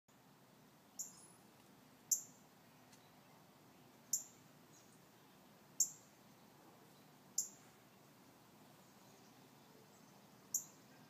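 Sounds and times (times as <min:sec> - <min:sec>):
faint background hiss: 0:00.1 - 0:11.0
bird chirping: 0:00.8 - 0:01.5, 0:02.1 - 0:11.0.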